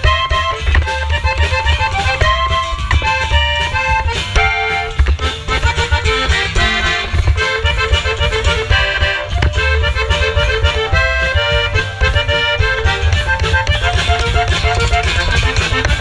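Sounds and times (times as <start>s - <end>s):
accordion playing quick runs: 0.0s - 16.0s
drums keeping a beat: 0.0s - 16.0s
electric bass: 0.0s - 16.0s.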